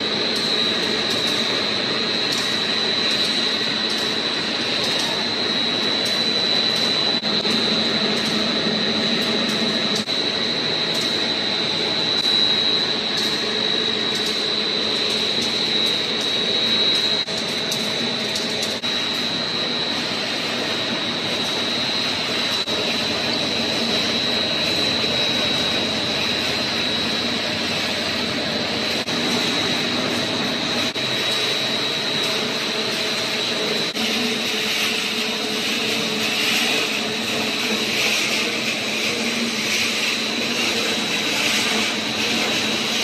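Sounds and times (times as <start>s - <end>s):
high-pitched machine whine: 0.0s - 43.0s.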